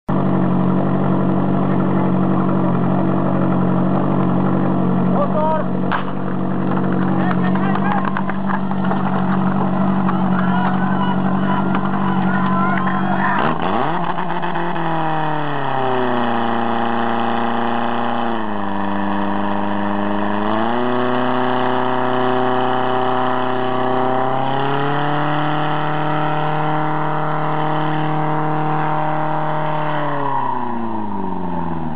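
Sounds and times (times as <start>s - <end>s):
pump engine revving: 0.1s - 31.9s.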